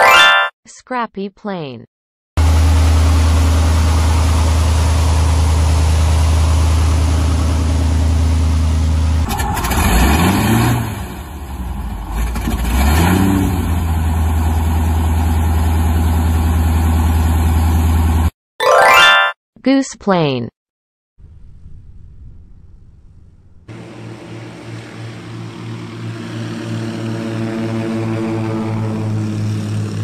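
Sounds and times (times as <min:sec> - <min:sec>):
propeller plane engine droning: 0:02.4 - 0:18.3, 0:21.2 - 0:30.0.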